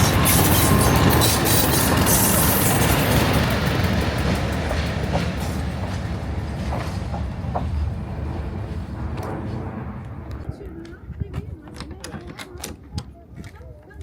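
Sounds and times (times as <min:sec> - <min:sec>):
train rumbling on rails: 0:00.0 - 0:11.4.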